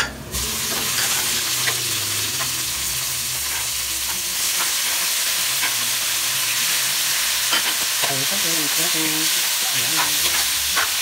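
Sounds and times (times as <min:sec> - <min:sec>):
meat sizzling in hot oil: 0:00.3 - 0:11.0
spatula scraping wok: 0:00.3 - 0:11.0.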